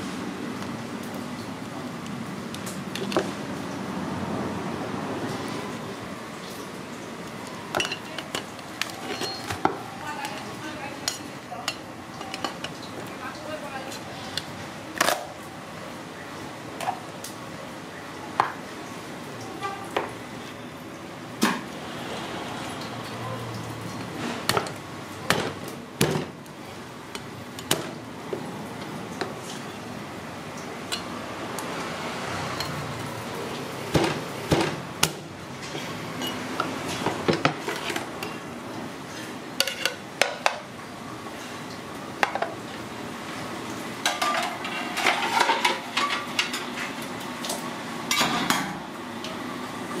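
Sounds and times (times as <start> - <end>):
steady background noise: 0.0 - 50.0.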